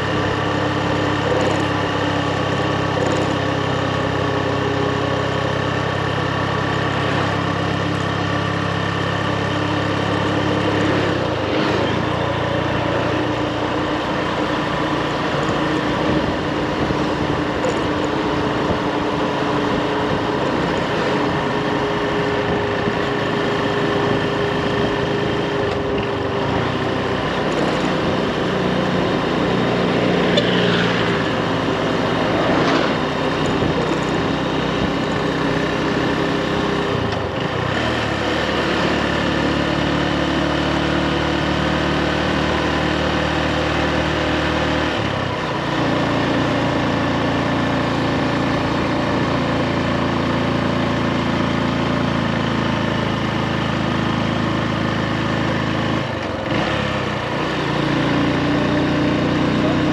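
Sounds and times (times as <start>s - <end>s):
motorbike engine running: 0.0s - 59.9s
wind and road noise: 0.0s - 59.9s.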